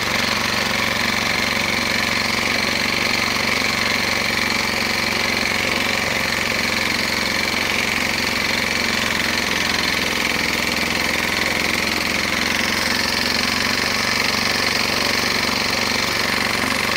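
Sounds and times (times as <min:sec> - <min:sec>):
petrol lawnmower engine running: 0:00.0 - 0:16.9.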